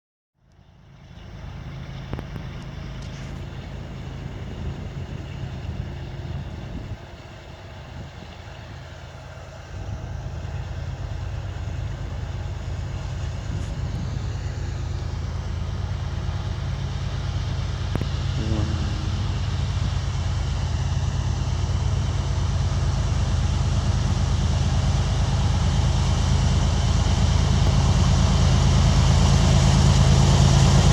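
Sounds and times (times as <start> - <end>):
diesel locomotive engine rumble: 0.4 - 30.9.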